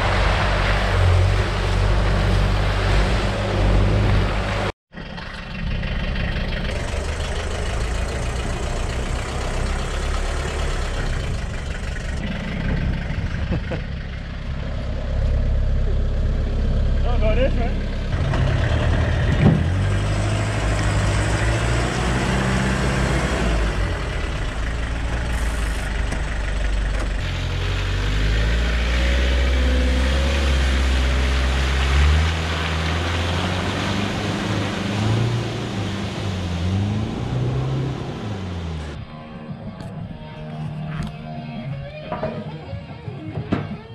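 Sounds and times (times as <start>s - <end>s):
truck engines revving: 0.0s - 42.0s.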